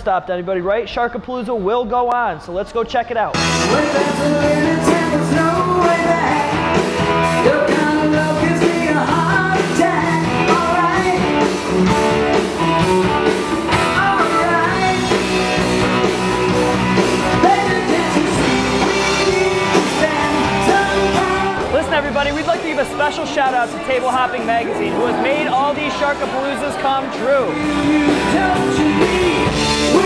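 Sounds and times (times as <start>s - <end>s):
live rock band playing: 3.3s - 30.0s
man singing: 3.4s - 12.4s, 13.7s - 16.1s, 17.2s - 30.0s.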